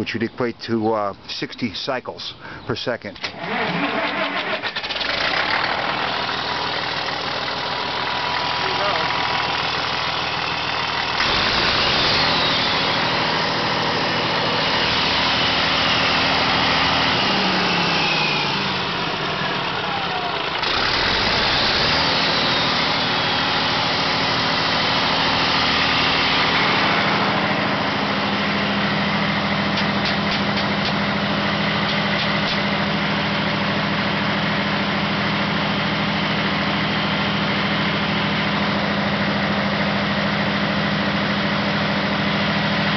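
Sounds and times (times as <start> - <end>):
diesel generator engine revving: 3.2 - 42.9.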